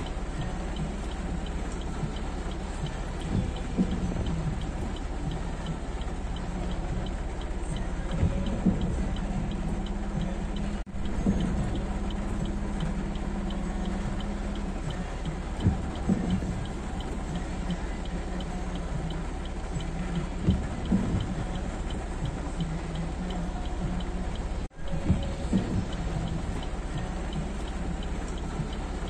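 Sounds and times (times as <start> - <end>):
faint regular ticking: 0.0 - 29.0
heavy rain: 0.0 - 29.0
low engine hum: 0.0 - 29.0.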